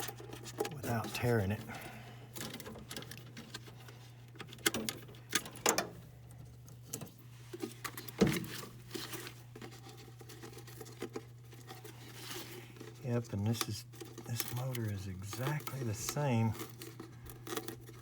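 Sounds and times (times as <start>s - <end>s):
clicks taps and scraping: 0.0s - 18.0s
steady low hum: 0.0s - 18.0s.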